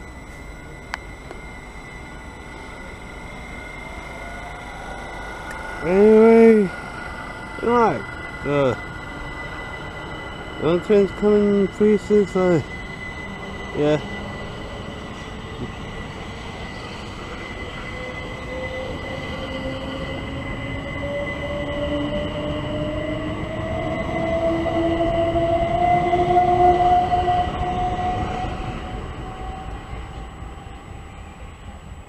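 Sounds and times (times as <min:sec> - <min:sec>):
steady high tone: 0:00.0 - 0:32.0
train traction motor whine: 0:00.0 - 0:32.0.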